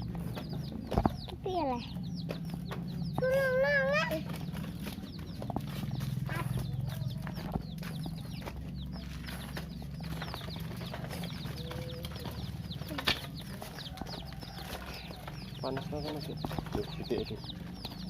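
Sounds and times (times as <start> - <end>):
chicks peeping: 0.0 - 18.0
steady low hum: 0.0 - 18.0.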